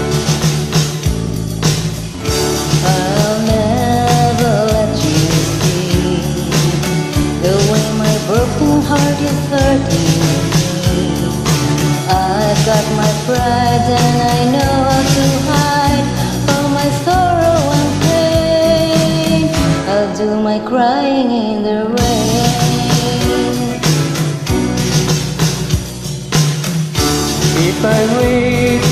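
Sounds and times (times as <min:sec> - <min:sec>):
karaoke pop-rock backing music: 0:00.0 - 0:28.9.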